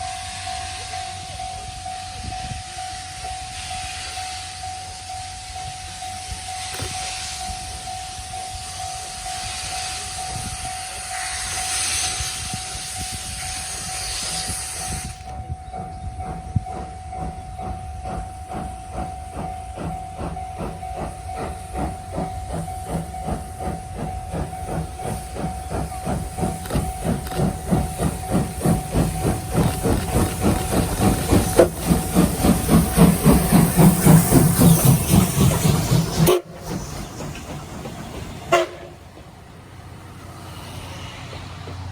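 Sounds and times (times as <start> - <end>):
steam hissing: 0.0 - 41.9
steam locomotive chuffing: 0.0 - 41.9.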